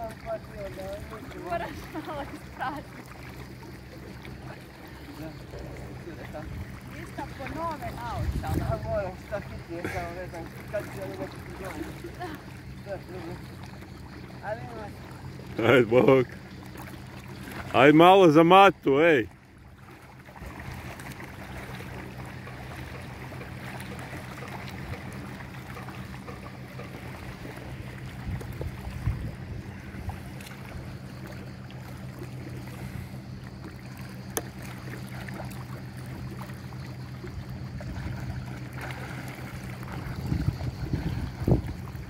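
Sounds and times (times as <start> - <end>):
boat motor running: 0.0 - 42.0
sea water washing: 0.0 - 42.0.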